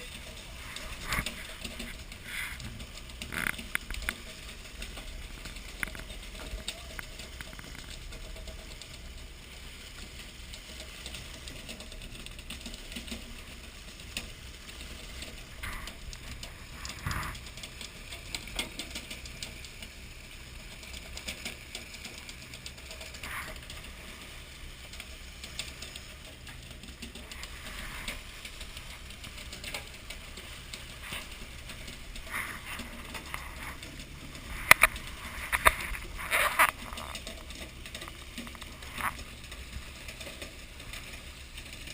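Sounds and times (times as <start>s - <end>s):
knocks and clatter: 0.0s - 41.9s.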